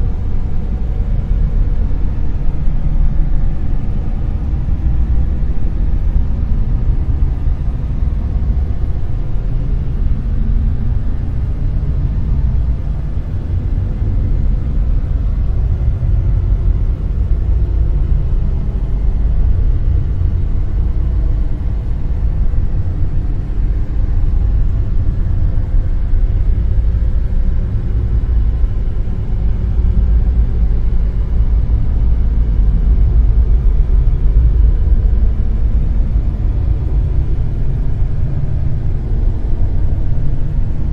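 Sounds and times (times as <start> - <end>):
deep rumbling noise: 0.0 - 40.9.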